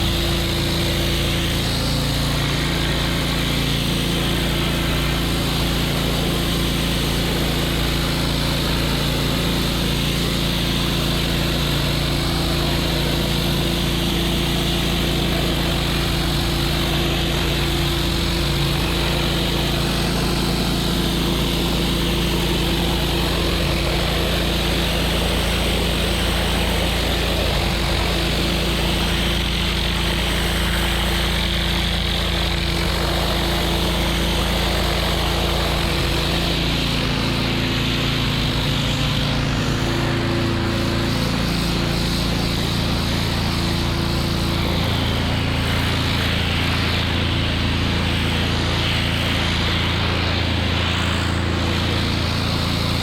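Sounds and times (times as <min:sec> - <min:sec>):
pressure washer engine running: 0:00.0 - 0:53.0
water spray hissing: 0:00.0 - 0:53.0.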